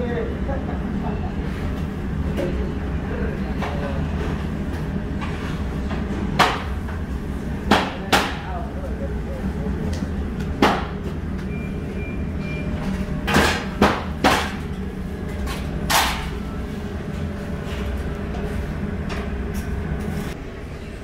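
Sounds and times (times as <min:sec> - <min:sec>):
kitchen hum: 0:00.0 - 0:21.0.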